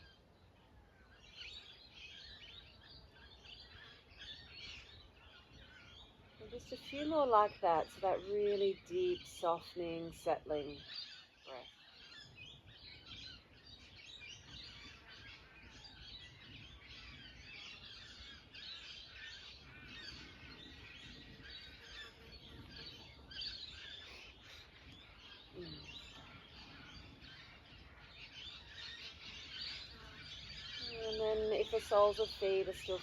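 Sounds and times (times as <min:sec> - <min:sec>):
birds chirping and singing: 0:00.0 - 0:33.0.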